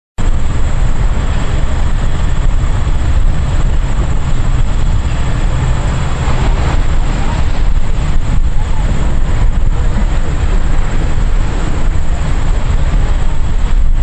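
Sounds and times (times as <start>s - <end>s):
rumbling road traffic: 0.2s - 14.0s.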